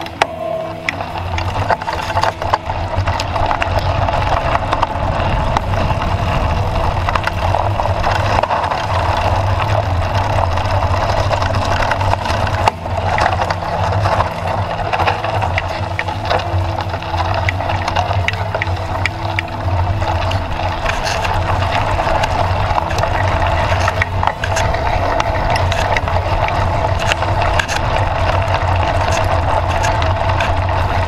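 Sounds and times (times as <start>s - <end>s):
bicycle rattling over bumps: 0.0s - 31.0s
bicycle tyres rumbling on dirt: 0.0s - 31.0s.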